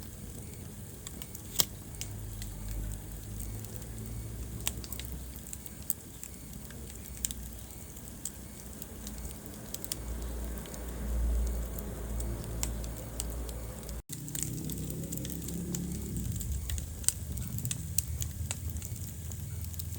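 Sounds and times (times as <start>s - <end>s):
wood fire crackling: 0.0s - 19.9s.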